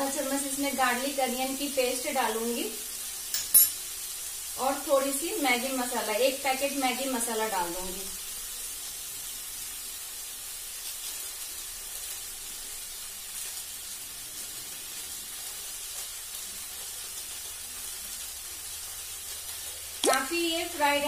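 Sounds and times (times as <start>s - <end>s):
vegetables sizzling in pot: 0.0s - 21.0s.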